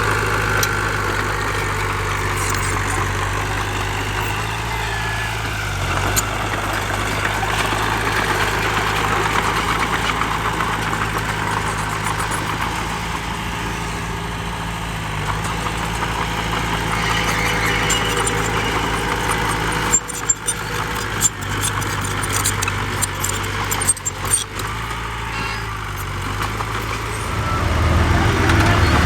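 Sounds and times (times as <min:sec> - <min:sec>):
heavy diesel engine humming: 0:00.0 - 0:29.0.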